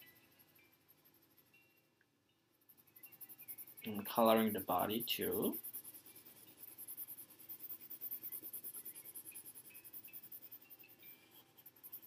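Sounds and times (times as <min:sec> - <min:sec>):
colored pencil scratching on paper: 0:00.0 - 0:01.6, 0:02.5 - 0:12.0.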